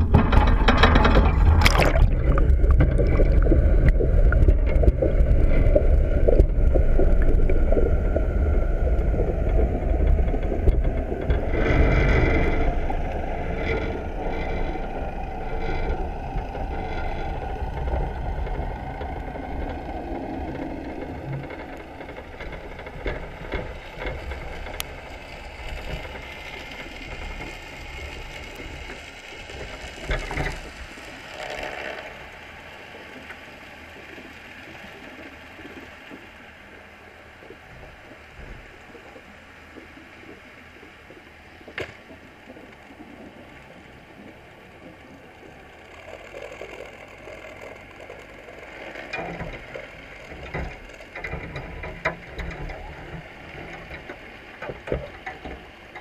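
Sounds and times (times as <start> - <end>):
muffled underwater rushing and gurgling: 0.0 - 56.0.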